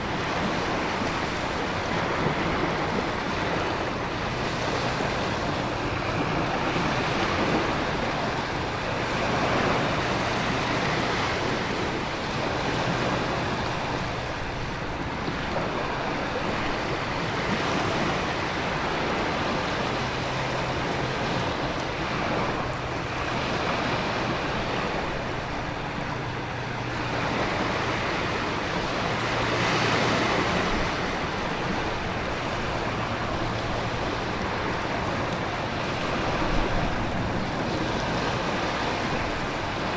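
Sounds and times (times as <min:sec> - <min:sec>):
heavy surf: 0:00.0 - 0:39.9
wind: 0:00.0 - 0:39.9
rain: 0:07.0 - 0:39.9.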